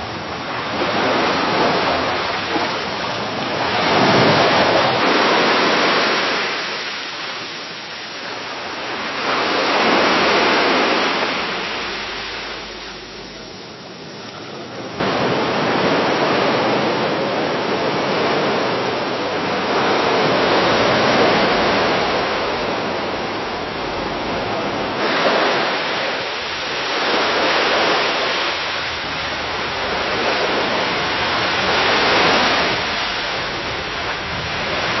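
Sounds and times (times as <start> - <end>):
waves washing against a dock: 0.0 - 35.0.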